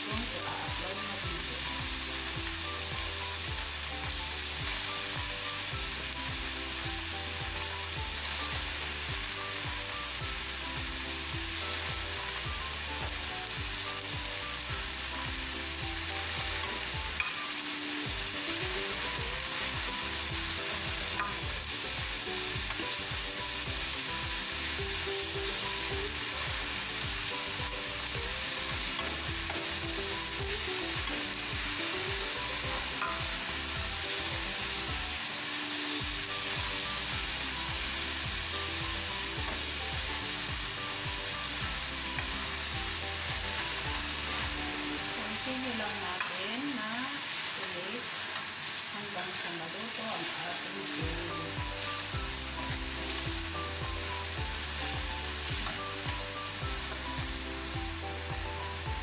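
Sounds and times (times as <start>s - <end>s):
vegetables sizzling in a wok: 0.0s - 59.0s.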